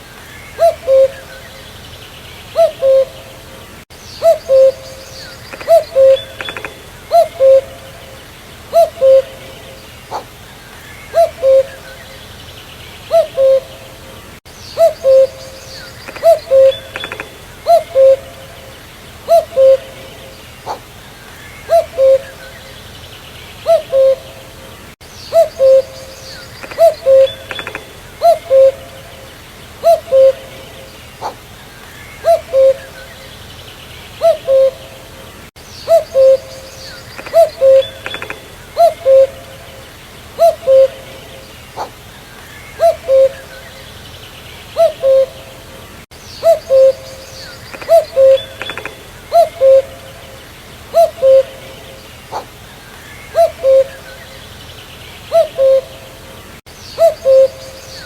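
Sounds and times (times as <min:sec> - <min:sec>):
cuckoo calling: 0:00.0 - 0:01.8, 0:02.5 - 0:12.4, 0:13.0 - 0:22.9, 0:23.6 - 0:33.4, 0:34.2 - 0:44.0, 0:44.6 - 0:54.6, 0:55.3 - 0:58.0.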